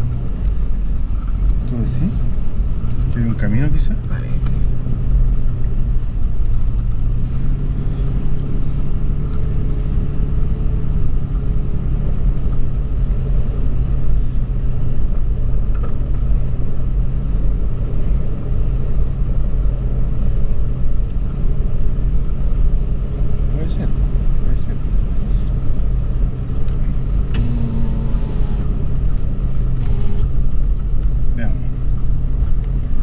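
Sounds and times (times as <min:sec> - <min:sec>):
car engine rumbling while driving: 0:00.0 - 0:33.0.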